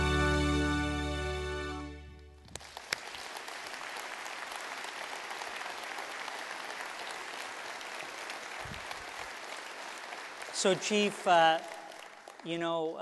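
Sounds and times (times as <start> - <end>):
audience applauding: 2.4 - 13.0
sharp claps: 2.5 - 13.0.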